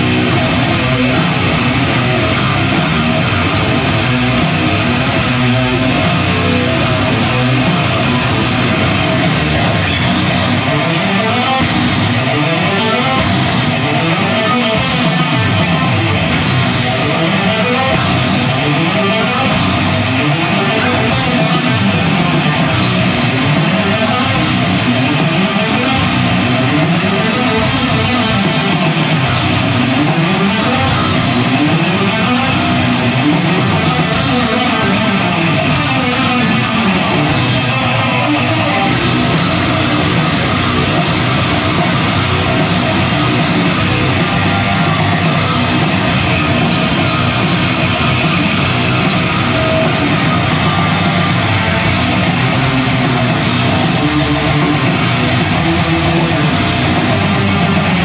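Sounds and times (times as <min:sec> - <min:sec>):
heavy metal electric guitar runs: 0:00.0 - 0:58.0.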